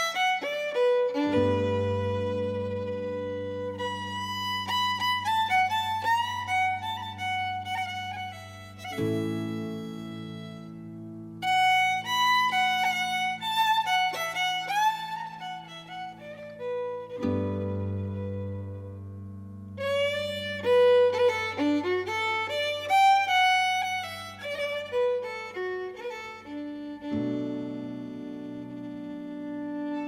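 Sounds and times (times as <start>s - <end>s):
fiddle playing a quick tune: 0.0s - 10.8s, 11.4s - 19.0s, 19.8s - 30.0s.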